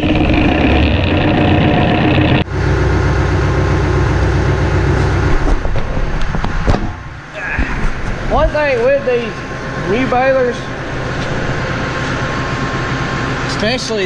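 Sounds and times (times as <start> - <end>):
tractor diesel engine running: 0.0 - 7.3, 8.1 - 14.0.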